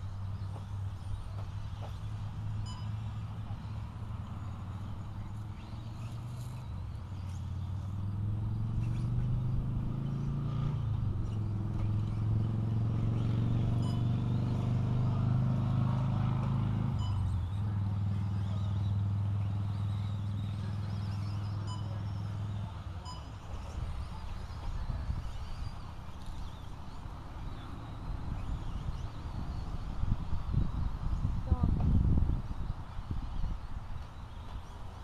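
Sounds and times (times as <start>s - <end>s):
low engine hum: 0.0s - 35.0s.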